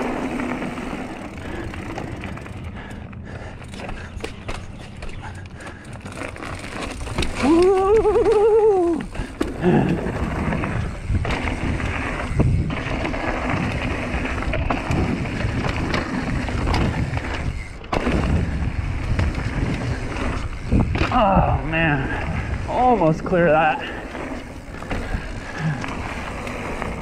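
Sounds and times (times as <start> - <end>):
bike knocking and rattling: 0.0 - 27.0
tyres on dirt: 0.0 - 27.0.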